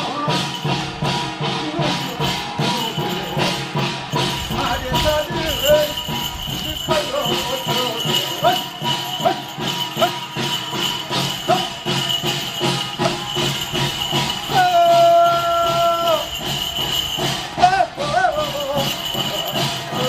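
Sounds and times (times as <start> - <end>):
drum beats: 0.0 - 20.0
hand bells jingling: 0.0 - 20.0.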